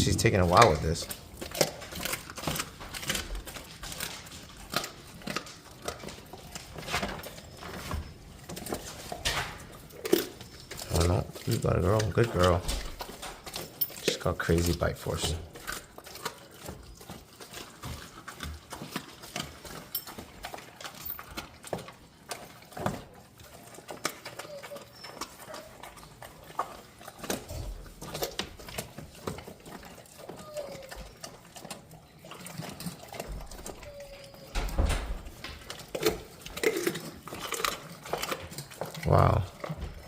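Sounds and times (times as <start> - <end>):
puppy chewing bone: 0.0 - 40.0.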